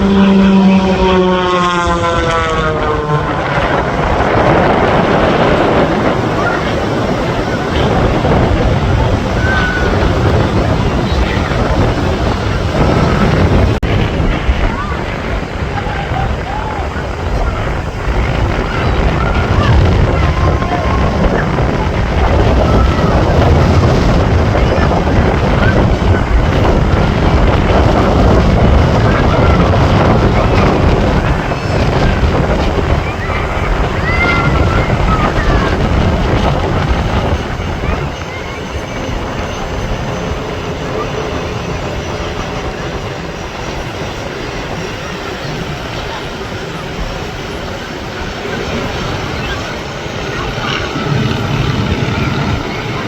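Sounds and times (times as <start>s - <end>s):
aircraft passing by: 0.0s - 53.0s
wind on microphone: 0.0s - 53.0s.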